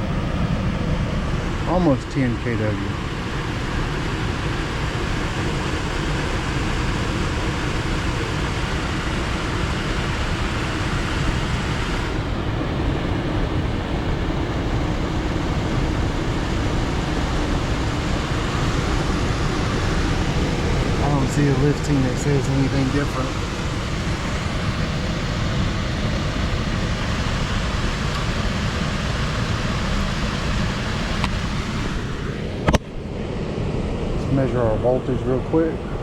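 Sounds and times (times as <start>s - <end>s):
air rushing through unit: 0.0s - 36.0s
blower motor running: 0.0s - 36.0s.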